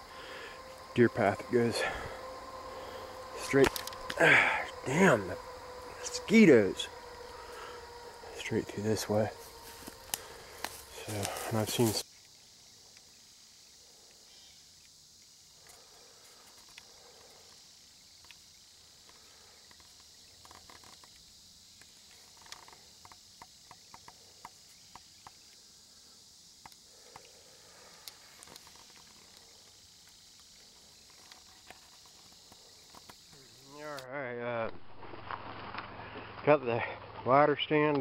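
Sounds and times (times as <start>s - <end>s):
faint high insect chorus: 0.0s - 38.0s.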